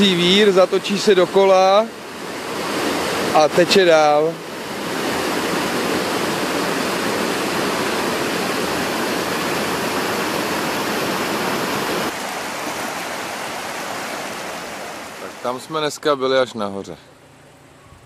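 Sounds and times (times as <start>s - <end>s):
river water rushing: 0.0s - 15.9s.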